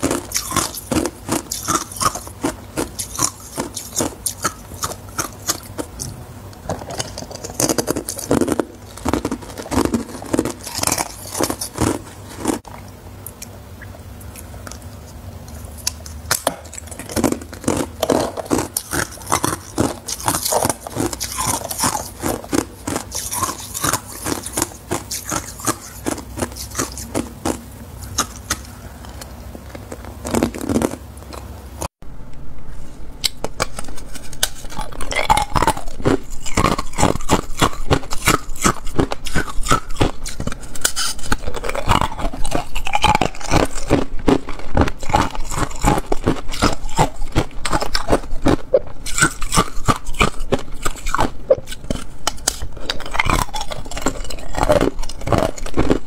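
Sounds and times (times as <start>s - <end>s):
ice being chewed and crunched: 0.0s - 13.5s, 14.2s - 31.9s, 33.2s - 56.0s.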